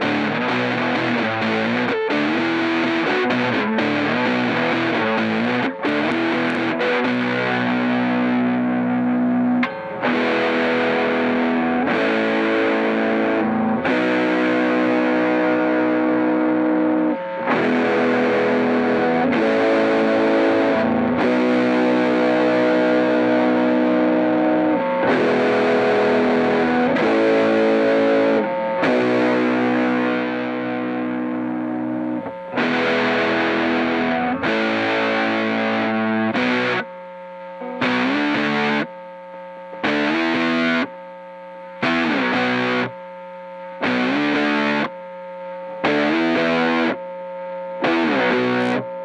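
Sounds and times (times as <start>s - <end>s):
distorted electric guitar chords: 0.0s - 49.0s.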